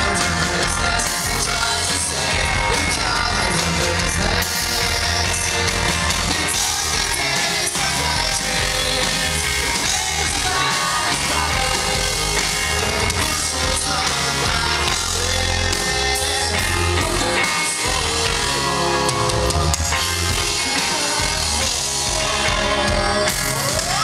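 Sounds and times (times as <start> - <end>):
drums: 0.0 - 24.0
electric bass: 0.0 - 24.0
electric guitar: 0.0 - 24.0
person singing: 0.0 - 24.0.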